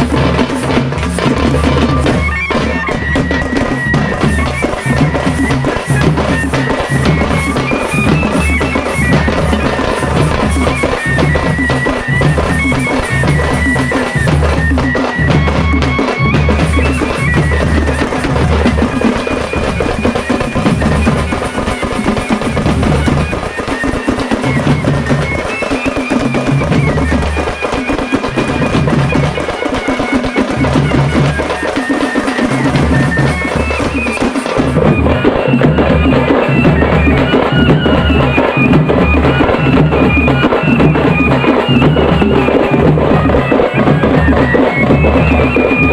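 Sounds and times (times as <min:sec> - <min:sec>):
heavy drum beat: 0:00.0 - 0:45.9
high melody line: 0:00.0 - 0:45.9.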